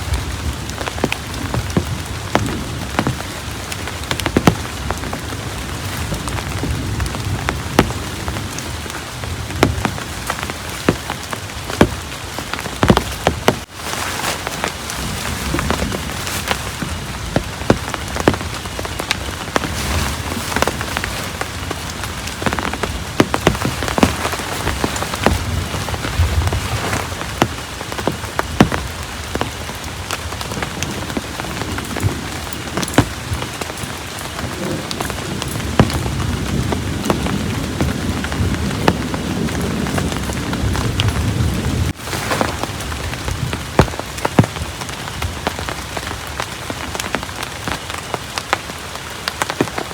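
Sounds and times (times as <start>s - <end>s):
heavy rain falling: 0.0s - 49.9s
raindrops ticking: 0.0s - 49.9s.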